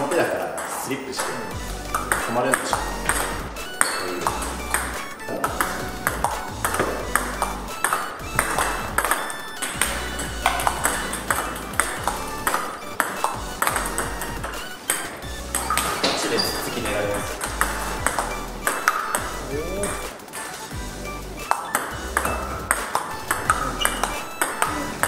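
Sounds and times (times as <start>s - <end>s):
ping-pong ball bouncing: 0.0s - 20.8s, 21.4s - 25.0s
background music with bass: 1.2s - 25.0s.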